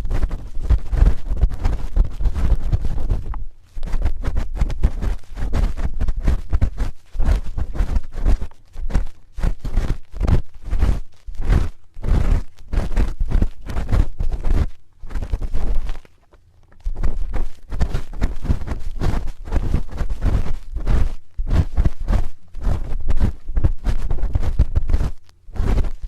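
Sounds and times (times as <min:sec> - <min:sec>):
spoon scraping microphone: 0:00.0 - 0:26.0.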